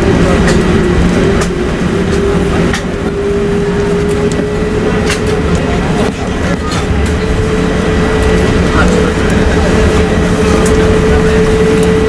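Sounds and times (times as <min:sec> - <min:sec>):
jet engine hum: 0:00.0 - 0:12.0
low rumble: 0:00.0 - 0:12.0.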